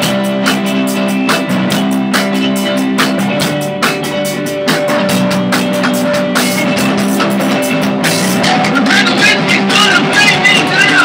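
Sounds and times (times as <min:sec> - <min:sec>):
drum kit beat: 0:00.0 - 0:11.0
electric guitar chords: 0:00.0 - 0:11.0.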